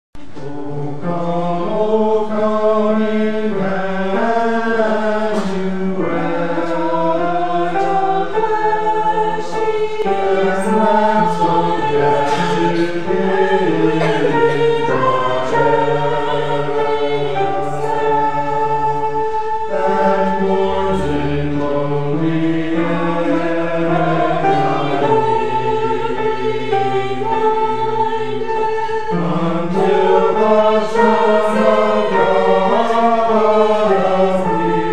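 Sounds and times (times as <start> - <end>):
choir singing in harmony: 0.2 - 34.9.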